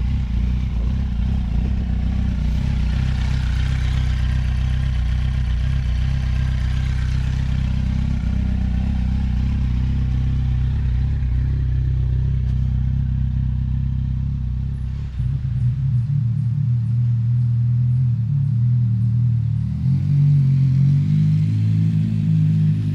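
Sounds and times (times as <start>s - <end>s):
motorcycle engine idling: 0.0s - 19.6s.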